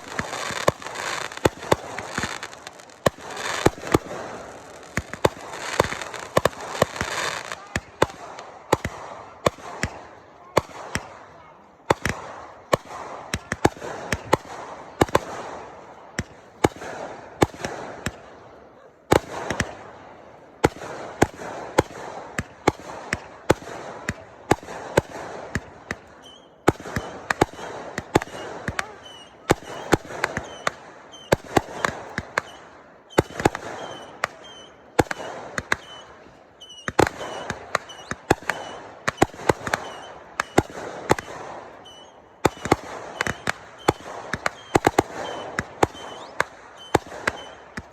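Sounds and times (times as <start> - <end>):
fireworks bangs and crackle: 0.0 - 47.9.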